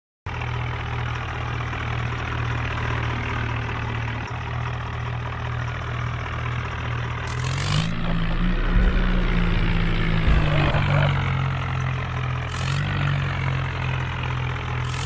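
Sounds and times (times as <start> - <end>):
tractor diesel engine idling: 0.3 - 15.0.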